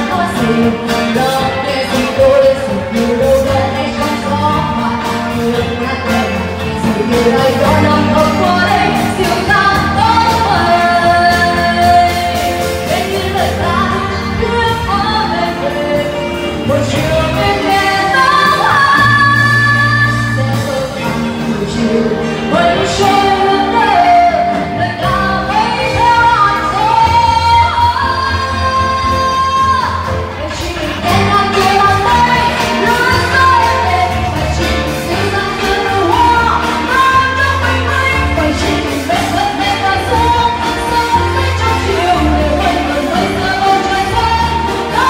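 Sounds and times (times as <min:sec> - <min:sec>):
live rock band playing: 0:00.0 - 0:45.0
woman singing: 0:00.0 - 0:45.0.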